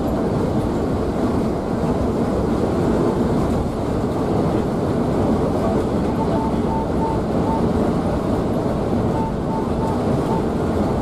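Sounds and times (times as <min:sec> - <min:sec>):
coach engine rumble: 0:00.0 - 0:11.0.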